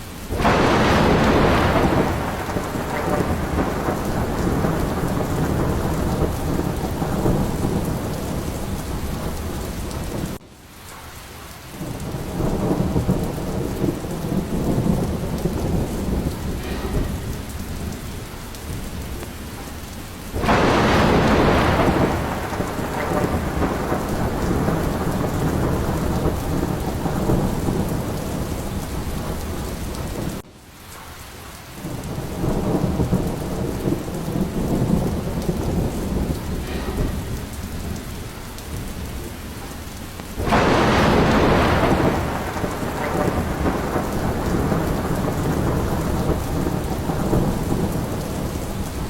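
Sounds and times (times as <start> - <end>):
loud thunderclap: 0.0 - 10.4, 11.8 - 30.4, 31.8 - 49.0
rumbling thunder: 0.0 - 10.4, 11.7 - 30.4, 31.8 - 49.0
heavy rain: 0.0 - 49.0.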